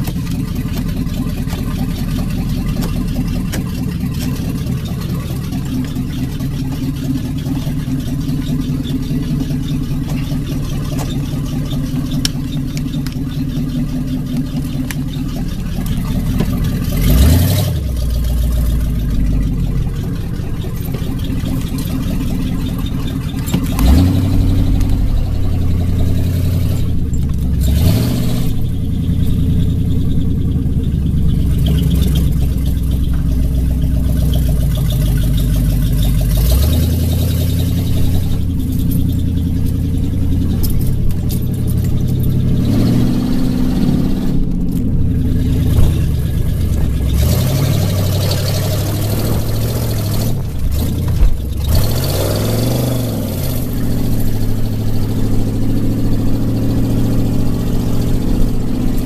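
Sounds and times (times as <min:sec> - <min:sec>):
engine revving: 0:00.0 - 0:59.0.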